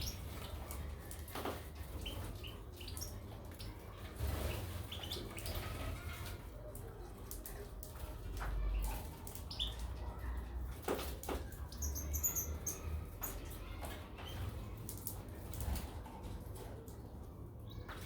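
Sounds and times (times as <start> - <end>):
small birds chirping: 0.0 - 15.9, 16.8 - 18.0.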